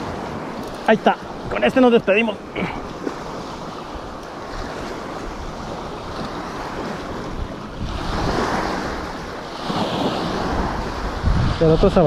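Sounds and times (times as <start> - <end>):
small waves washing over rocks: 0.0 - 12.0
wind rumbling on microphone: 0.0 - 12.0.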